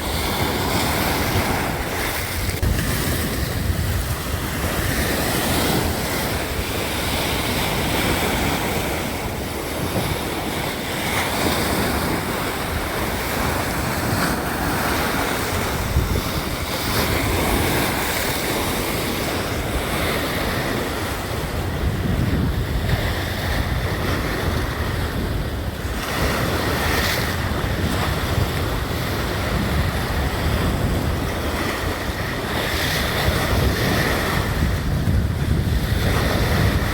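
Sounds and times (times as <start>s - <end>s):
sea waves breaking on shore: 0.0s - 36.9s
wind rumbling on microphone: 0.0s - 36.9s.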